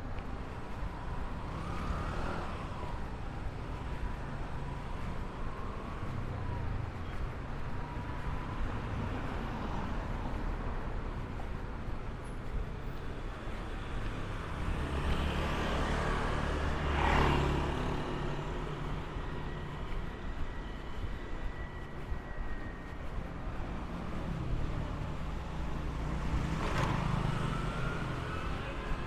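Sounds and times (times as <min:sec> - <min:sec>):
traffic road noise: 0:00.0 - 0:29.0.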